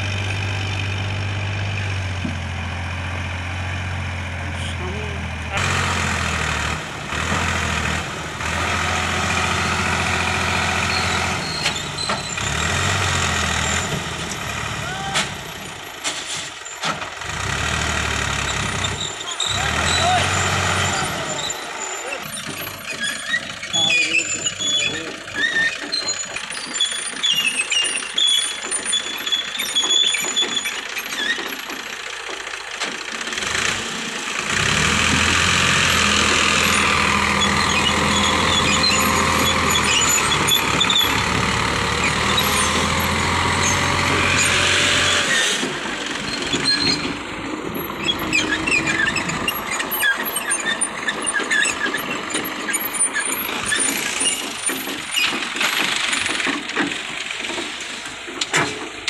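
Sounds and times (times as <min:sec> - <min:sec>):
diesel tractor engine under load: 0:00.0 - 0:59.0
excavator tracks squeaking and clanking: 0:00.0 - 0:59.0.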